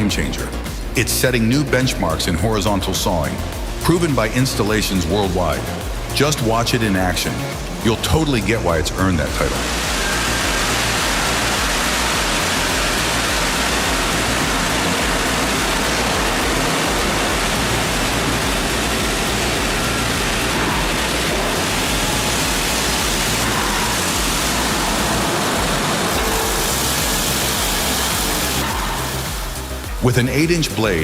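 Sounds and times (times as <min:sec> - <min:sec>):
band sawmill cutting log: 0:02.8 - 0:30.2.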